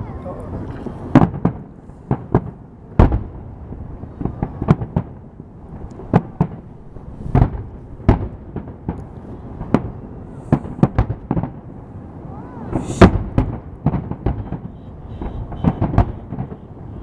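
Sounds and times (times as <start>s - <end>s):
distant explosions rumbling: 0.0s - 17.0s
fireworks bangs: 0.0s - 17.0s.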